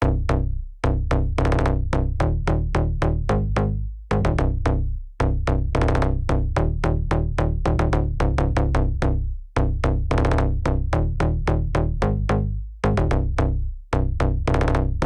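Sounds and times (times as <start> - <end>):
electronic music with heavy bass: 0.0 - 15.0.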